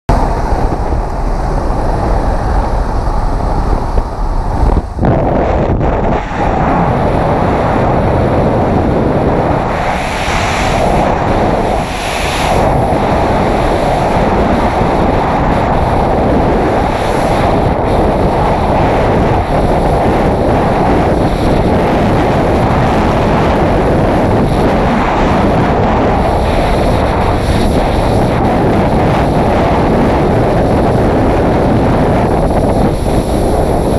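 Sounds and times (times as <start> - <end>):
aircraft noise: 0.1 - 33.9
strong wind rushing over microphone: 0.1 - 33.9.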